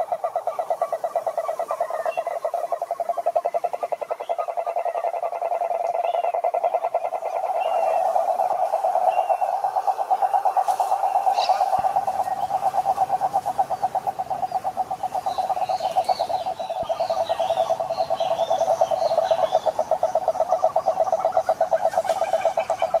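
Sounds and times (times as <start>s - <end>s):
frog rapid pulsed trill: 0.0s - 23.0s
frogs chirping: 0.0s - 23.0s.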